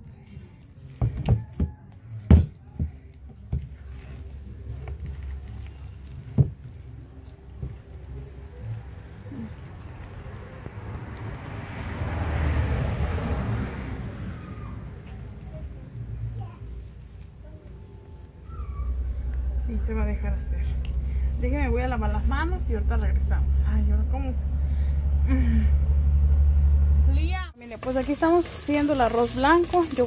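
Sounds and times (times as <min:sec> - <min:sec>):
hands kneading soft mixture: 0:00.0 - 0:23.2, 0:27.6 - 0:30.0.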